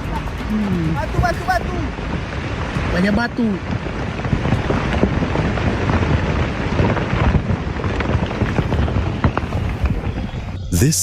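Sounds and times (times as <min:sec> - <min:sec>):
volcano rumbling: 0:00.0 - 0:11.0
wind buffeting microphone: 0:00.0 - 0:11.0.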